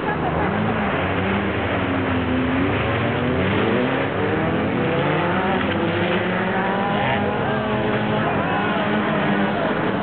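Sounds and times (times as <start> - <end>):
racing car engines revving: 0.0 - 10.0.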